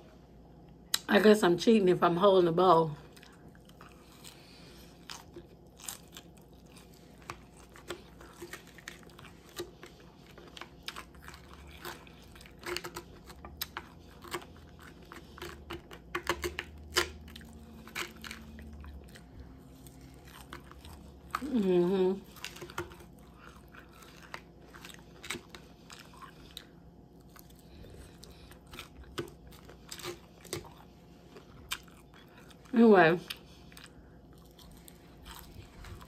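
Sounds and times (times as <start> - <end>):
chewing crisp lettuce: 2.7 - 36.0.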